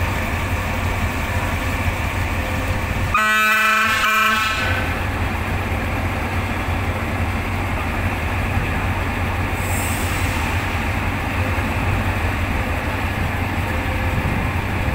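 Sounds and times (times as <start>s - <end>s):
locomotive engine rumble: 0.0s - 14.9s.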